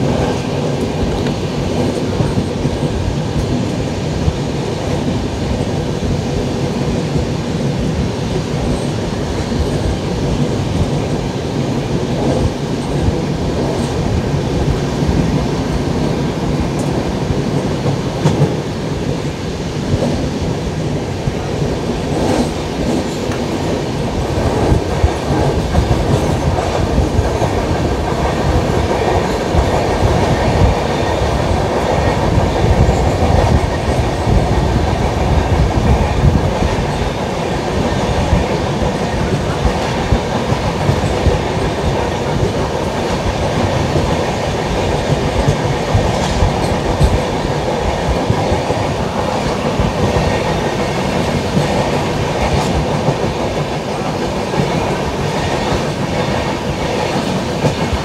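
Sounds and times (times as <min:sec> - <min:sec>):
clickety-clack over rail joints: 0:00.0 - 0:58.0
train wheels on rails: 0:00.0 - 0:58.0.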